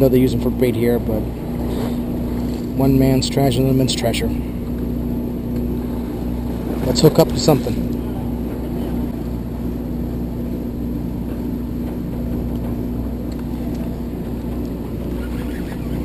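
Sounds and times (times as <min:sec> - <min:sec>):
boat engines humming: 0:00.0 - 0:16.0.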